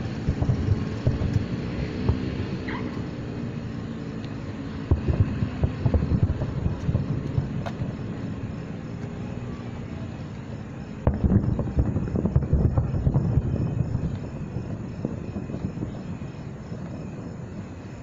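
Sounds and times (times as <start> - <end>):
distant fireworks booming: 0.0 - 18.0.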